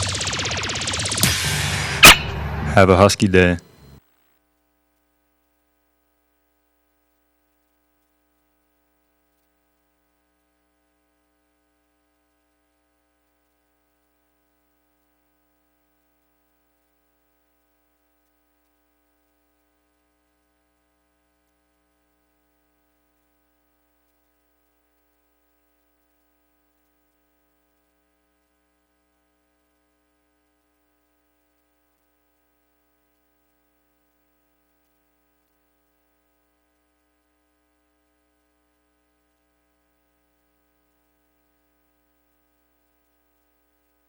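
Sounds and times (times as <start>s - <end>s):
faint electrical hum: 0.0s - 44.0s.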